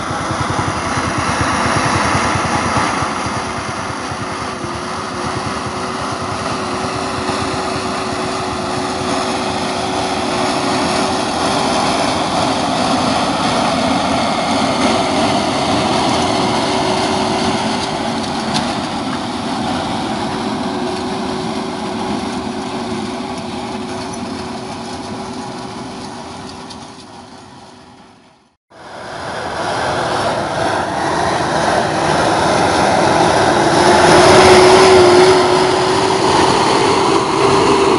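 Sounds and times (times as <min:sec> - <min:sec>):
diesel engine with whine: 0:00.0 - 0:37.9.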